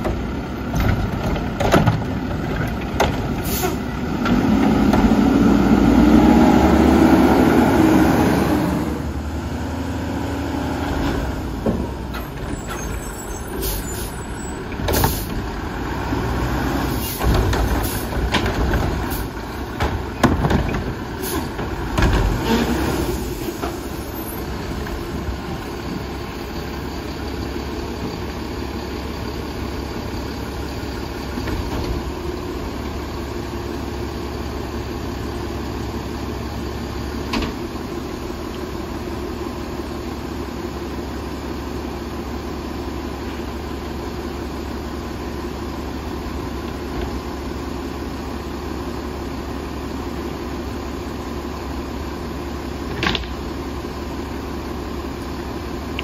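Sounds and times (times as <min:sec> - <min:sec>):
truck engine revving and idling: 0:00.0 - 0:56.0.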